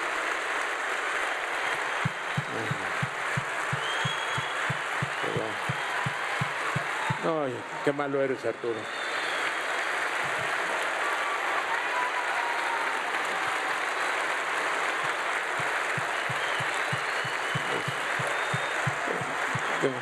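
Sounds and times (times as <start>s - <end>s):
large audience applauding: 0.0s - 20.0s.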